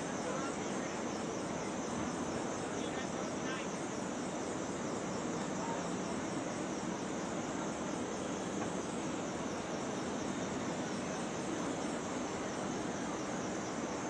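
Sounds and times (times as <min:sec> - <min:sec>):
high wavering hiss: 0:00.0 - 0:14.0.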